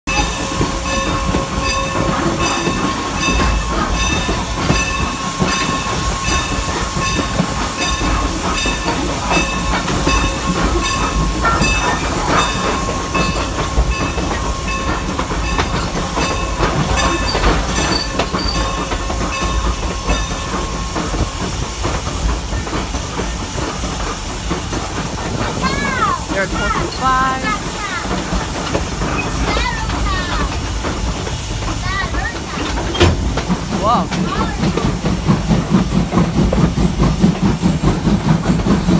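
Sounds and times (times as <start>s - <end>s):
steam locomotive rumble and hiss: 0.1s - 38.9s.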